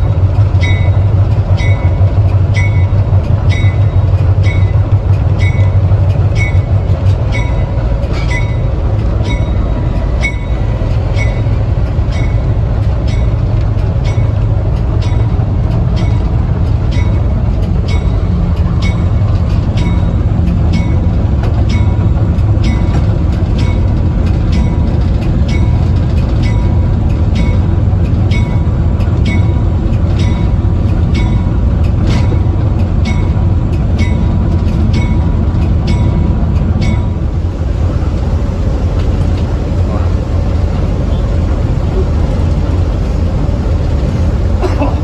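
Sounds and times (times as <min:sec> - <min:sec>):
railway car rumbling on track: 0:00.0 - 0:45.0
wheels clicking over rail joints: 0:00.0 - 0:45.0.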